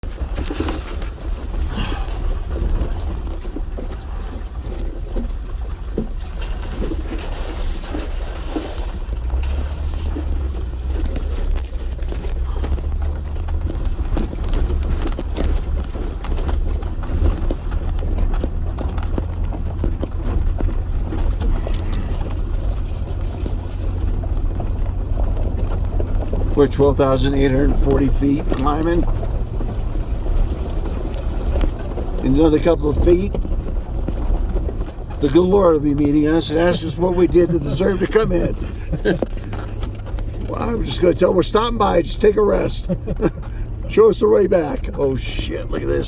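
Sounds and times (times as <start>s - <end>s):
knocks and rattles: 0.0s - 42.0s
off-road vehicle engine rumble: 0.0s - 46.0s.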